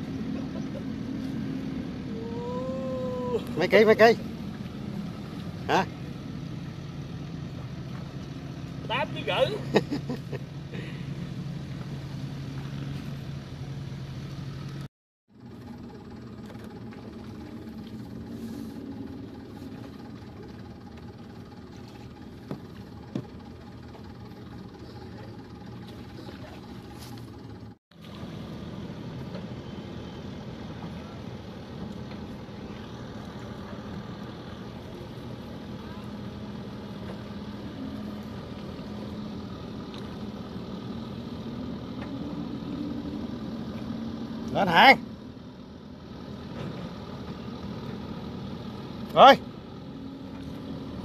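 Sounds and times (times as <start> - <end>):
small engine idling: 0.0 - 51.0.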